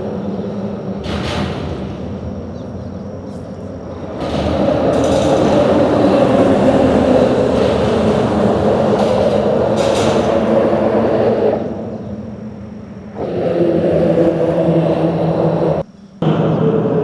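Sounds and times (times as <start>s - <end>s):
vehicle rumbling over bridge: 0.0s - 17.0s.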